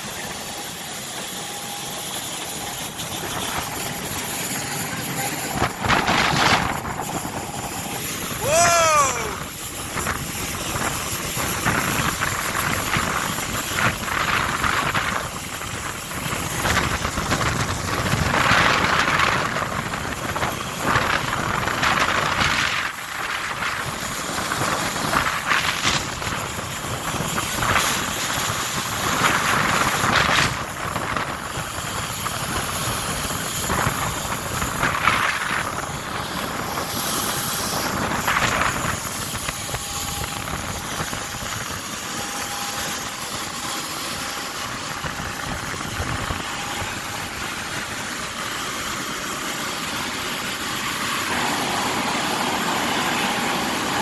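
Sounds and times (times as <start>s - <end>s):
wind roaring over microphone: 4.7s - 54.0s.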